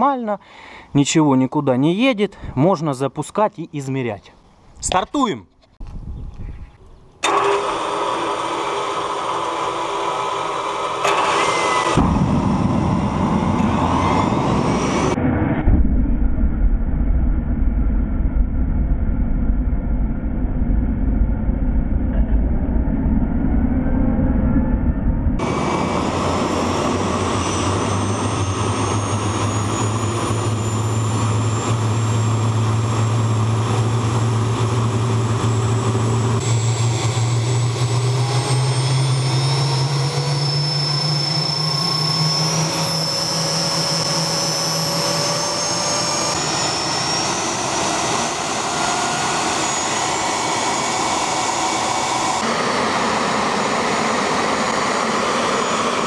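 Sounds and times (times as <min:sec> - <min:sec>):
turbojet engine whine: 0:05.8 - 0:56.0.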